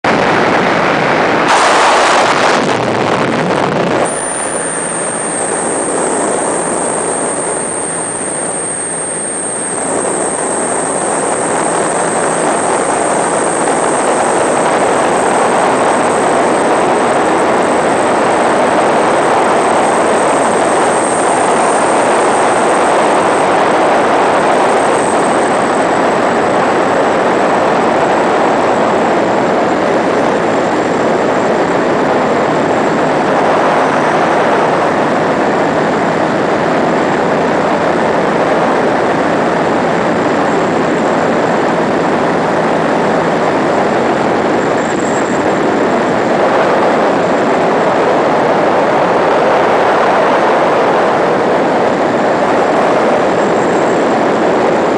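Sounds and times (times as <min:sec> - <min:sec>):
aircraft engine and propeller: 0:00.0 - 0:54.9
rushing wind: 0:00.0 - 0:54.9
thin high whine: 0:00.1 - 0:54.9.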